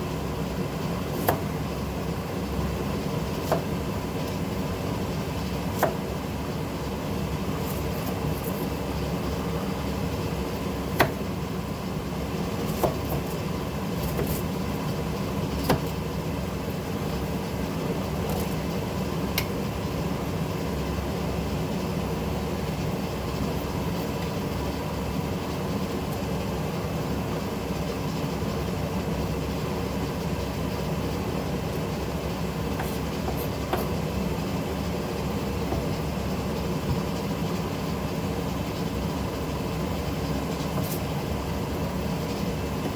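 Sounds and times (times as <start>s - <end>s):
kitchen rumble and hum: 0.0s - 42.9s.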